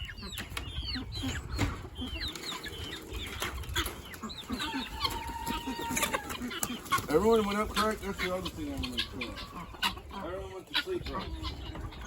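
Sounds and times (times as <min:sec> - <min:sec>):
chicken drawn-out call: 0:00.0 - 0:12.0
chickens clucking and chirping: 0:00.0 - 0:12.0.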